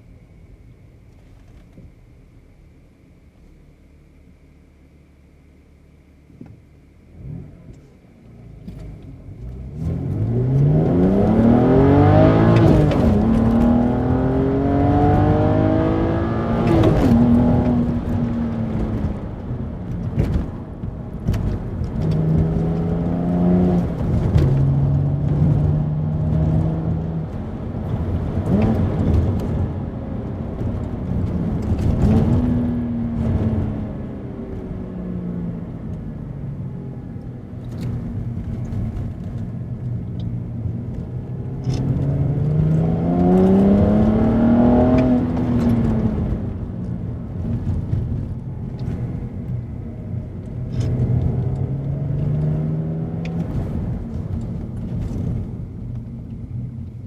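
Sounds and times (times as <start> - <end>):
car engine accelerating through gears: 6.3 - 57.0.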